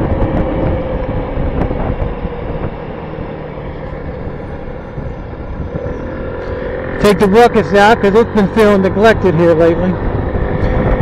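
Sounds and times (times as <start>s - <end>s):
scooter engine running: 0.0s - 11.0s
wind rumble: 0.0s - 11.0s.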